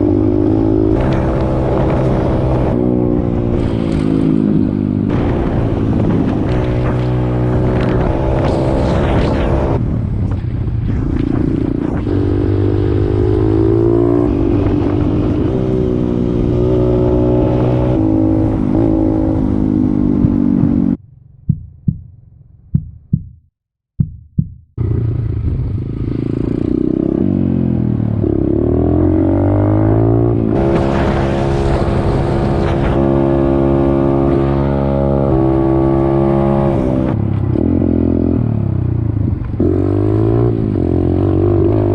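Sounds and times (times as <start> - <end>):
motorbike engine revving: 0.0 - 10.0, 11.1 - 21.0, 24.8 - 41.9.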